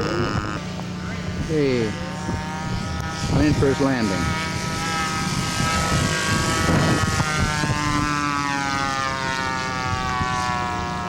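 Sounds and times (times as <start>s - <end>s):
model airplane propeller engine droning: 0.0s - 11.0s.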